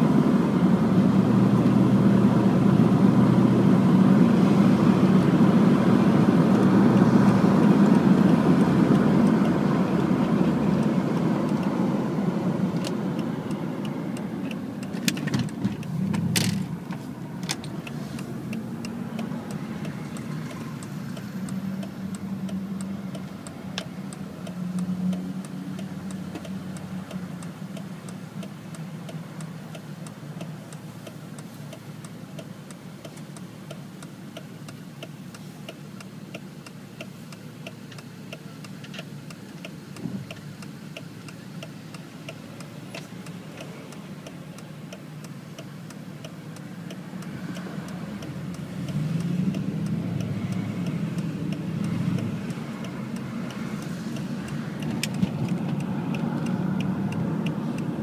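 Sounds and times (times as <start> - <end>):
car engine idling: 0.0 - 58.0
turn signal clicking: 1.6 - 58.0.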